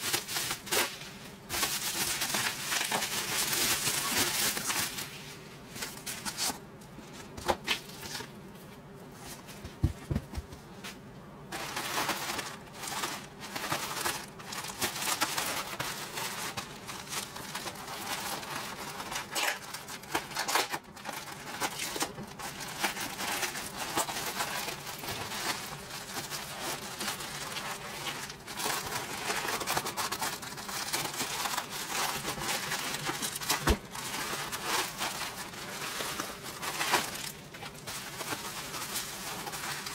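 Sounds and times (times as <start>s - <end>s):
bubble wrap crinkling and crackling: 0.0s - 10.2s, 10.9s - 39.9s.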